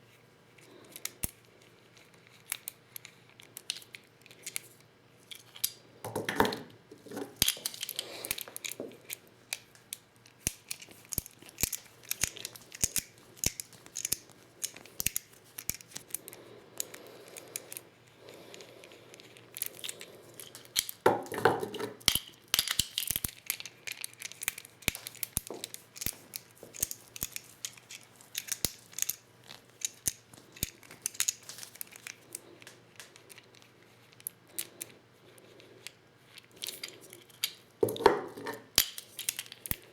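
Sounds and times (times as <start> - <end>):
plastic hulls and tools clicking: 2.0 - 17.8, 18.5 - 34.9.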